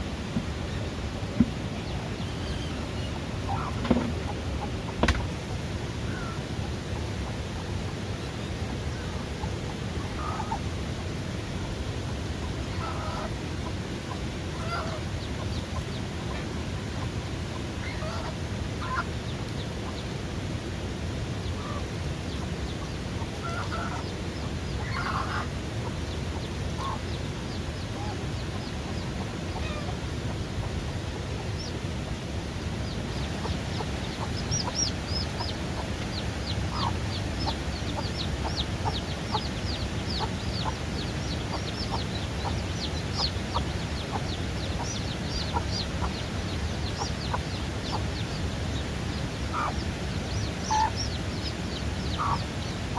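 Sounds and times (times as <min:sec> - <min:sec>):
chickens clucking: 0:00.0 - 0:20.6, 0:21.2 - 0:52.9
chicks peeping: 0:00.2 - 0:10.8, 0:11.5 - 0:20.6, 0:21.4 - 0:52.9.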